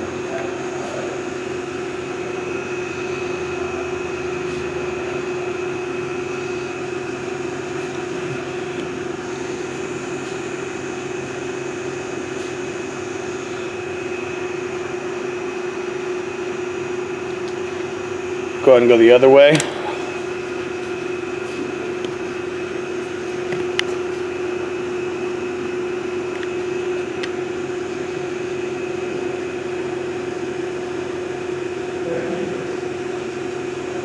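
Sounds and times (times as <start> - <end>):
lathe running: 0.0 - 34.0.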